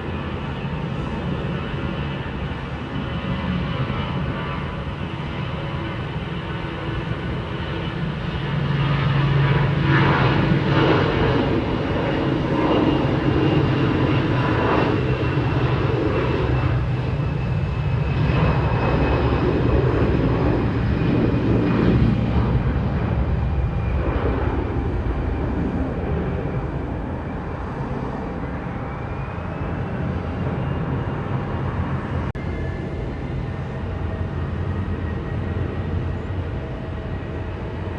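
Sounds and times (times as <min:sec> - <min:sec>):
jet engines with fan whine: 0:00.0 - 0:37.9.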